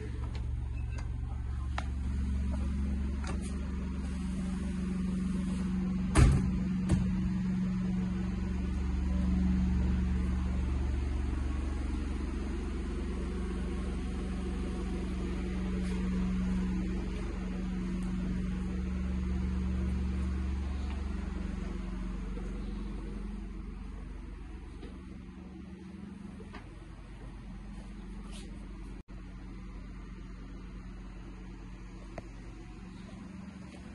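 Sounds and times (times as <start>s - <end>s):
low rumble: 0.0s - 33.6s
steady low hum: 0.0s - 33.9s.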